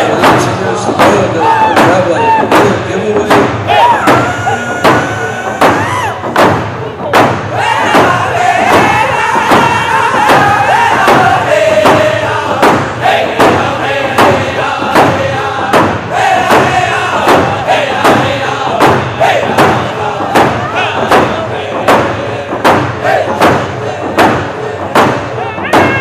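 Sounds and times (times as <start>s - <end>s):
group singing shrill unison chant: 0.0s - 6.2s, 7.4s - 26.0s
steady drum beat: 0.0s - 26.0s.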